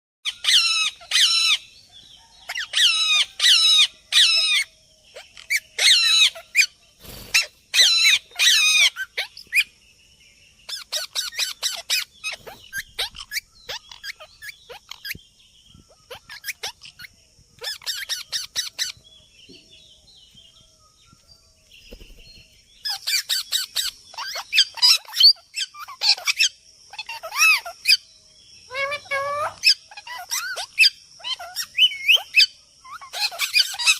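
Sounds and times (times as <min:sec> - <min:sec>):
parrots chirping: 0:00.2 - 0:09.8, 0:10.6 - 0:15.2, 0:15.8 - 0:19.1, 0:22.8 - 0:33.9.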